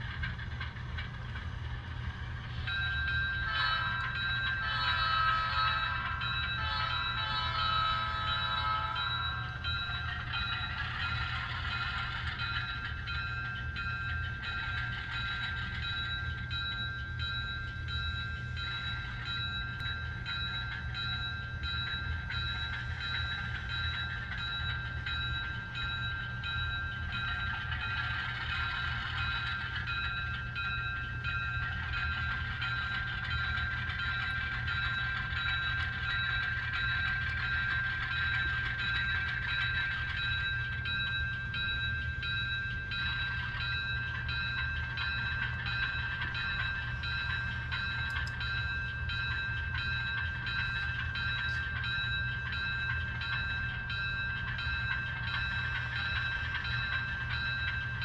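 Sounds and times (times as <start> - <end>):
locomotive bell ringing: 0.0 - 58.0.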